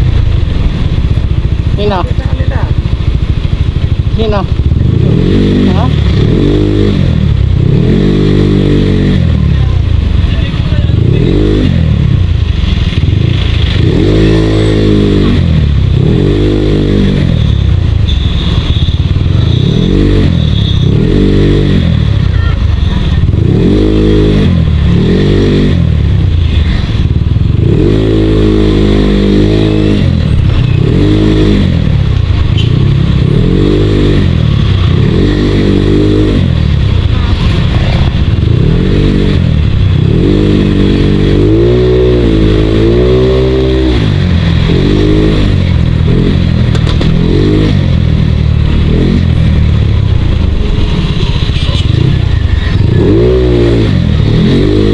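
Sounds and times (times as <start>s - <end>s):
scooter engine revving: 0.0s - 54.9s.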